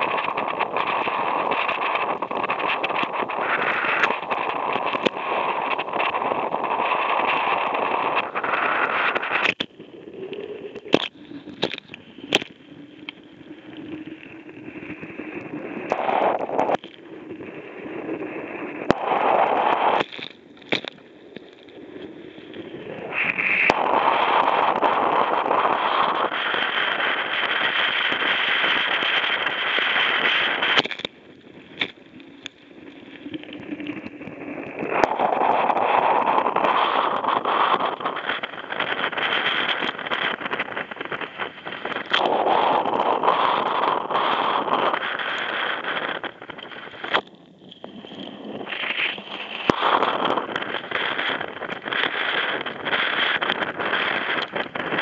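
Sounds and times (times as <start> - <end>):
sharp clicks and crackles: 0.0 - 55.0
wind gusting over microphone: 0.0 - 55.0.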